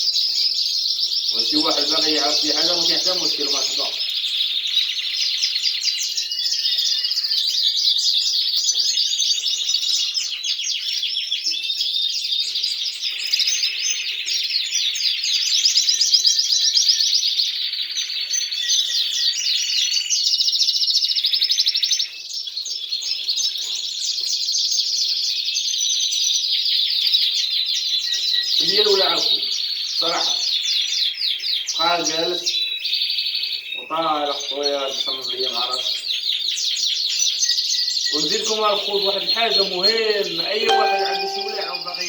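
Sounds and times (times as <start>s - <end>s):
canaries singing: 0.0s - 42.0s.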